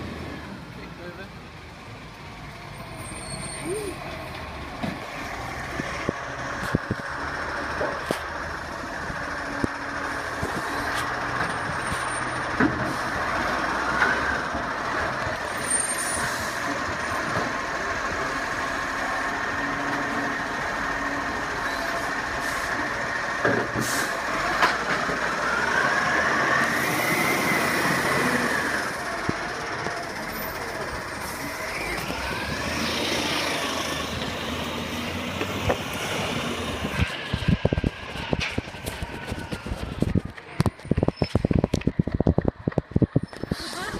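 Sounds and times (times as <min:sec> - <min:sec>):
heavy truck engine running: 0:00.0 - 0:43.9.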